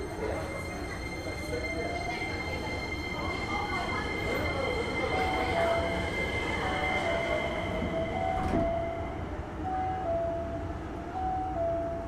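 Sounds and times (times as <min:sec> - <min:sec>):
electric train hum and whine: 0:00.0 - 0:12.0.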